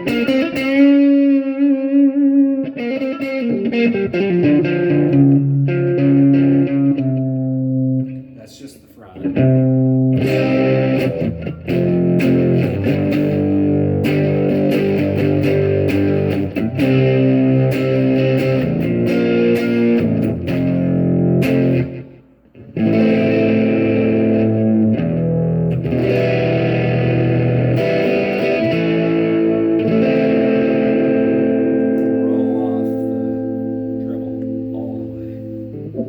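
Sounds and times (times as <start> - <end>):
overdriven electric guitar strumming: 0.0 - 8.3, 9.2 - 36.0.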